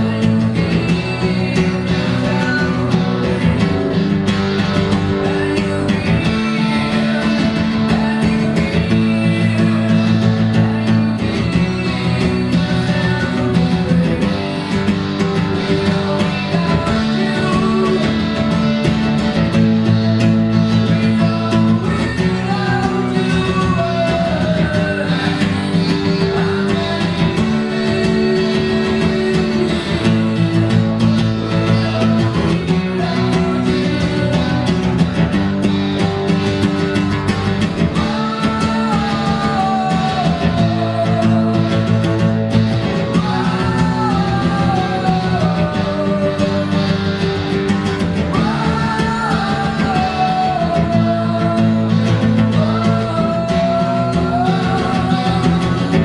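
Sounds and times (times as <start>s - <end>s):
electric guitar lead bending: 0.0s - 56.0s
strummed acoustic guitar chords: 0.0s - 56.0s.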